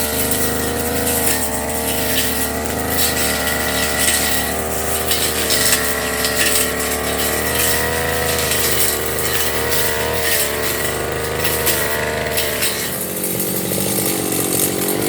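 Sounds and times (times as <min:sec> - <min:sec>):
brush cutter engine running: 0:00.0 - 0:15.0
grass being slashed: 0:00.0 - 0:15.0.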